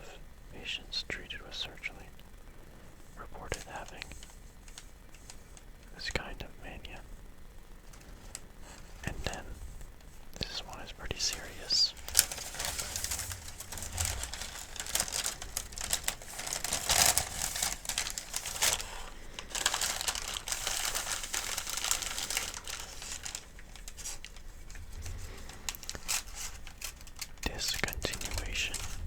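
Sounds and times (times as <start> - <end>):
paper crinkling and rustling: 3.6 - 6.3, 7.8 - 29.0.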